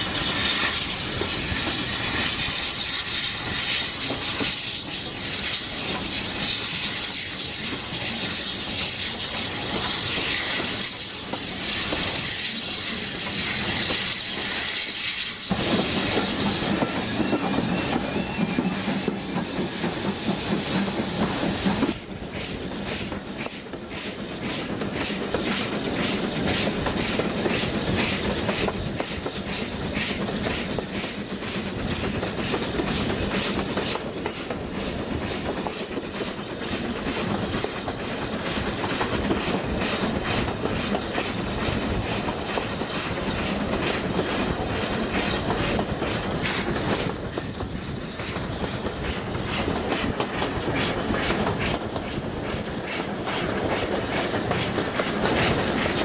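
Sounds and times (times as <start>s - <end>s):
train rushing noise: 0.0s - 56.0s
train wheels clattering over rail joints: 0.0s - 56.0s.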